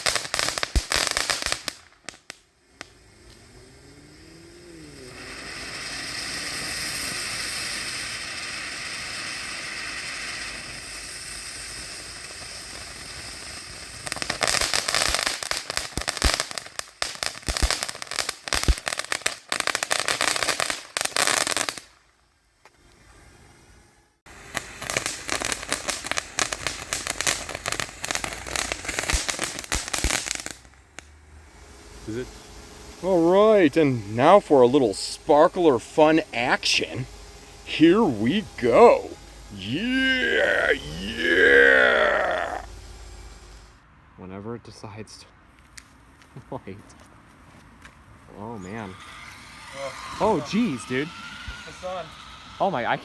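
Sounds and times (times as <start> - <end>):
fireworks crackling: 0.0 - 23.6, 24.2 - 43.8, 48.3 - 53.0
fireworks hissing spray: 0.0 - 43.8, 48.3 - 53.0.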